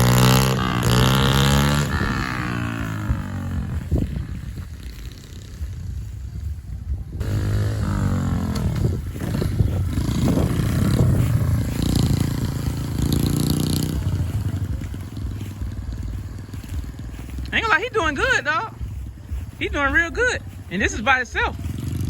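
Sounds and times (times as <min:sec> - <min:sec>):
mini bike engine revving: 0:00.0 - 0:22.0.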